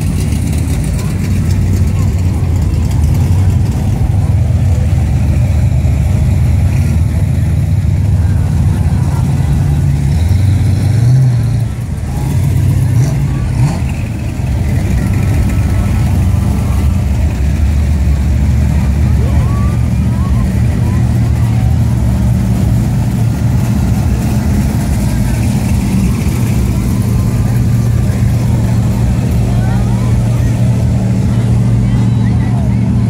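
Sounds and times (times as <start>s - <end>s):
car engines running low and loud: 0.0s - 33.0s
crowd chatter: 0.0s - 33.0s
engine revving: 0.0s - 33.0s.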